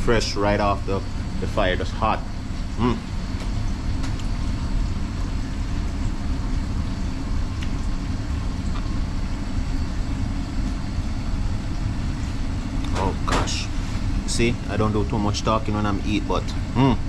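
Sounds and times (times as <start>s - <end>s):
faint high whine: 0.0s - 17.0s
low machinery hum: 0.0s - 17.0s.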